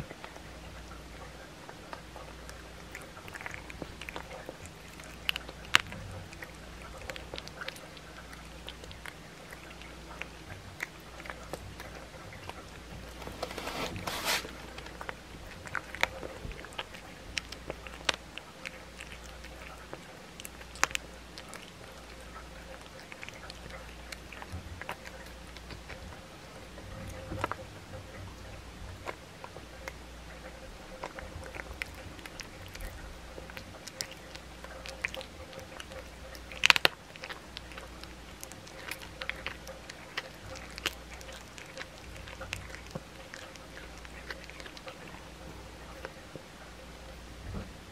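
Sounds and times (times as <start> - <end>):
cat chewing crunching bones: 0.0 - 47.3.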